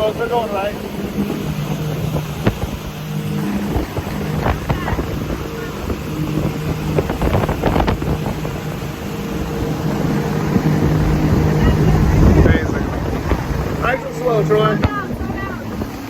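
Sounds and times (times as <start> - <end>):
motorboat engine humming: 0.0 - 16.0
wind buffeting microphone: 0.0 - 16.0.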